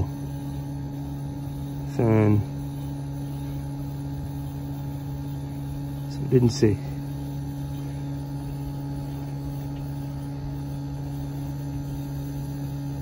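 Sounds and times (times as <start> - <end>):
heat pump unit humming: 0.0 - 13.0.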